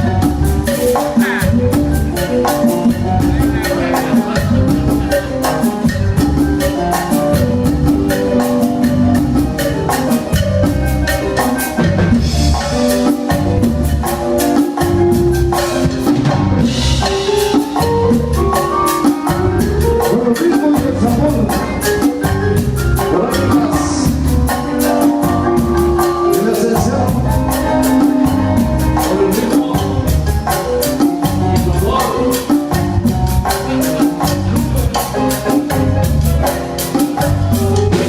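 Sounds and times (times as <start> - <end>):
pulsing bass line: 0.0 - 20.2, 20.8 - 36.6
fast percussion beat: 0.0 - 38.0
keyboard melody: 0.0 - 38.0
live band playing: 0.0 - 38.0.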